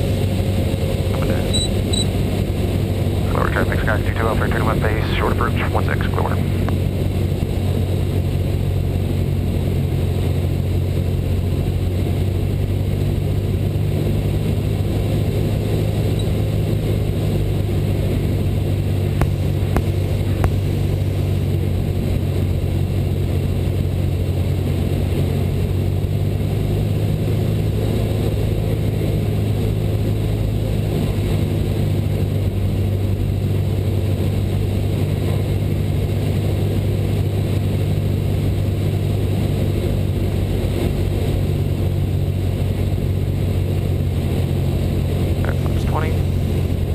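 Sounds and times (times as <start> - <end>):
airplane engine and propeller drone: 0.0 - 46.9.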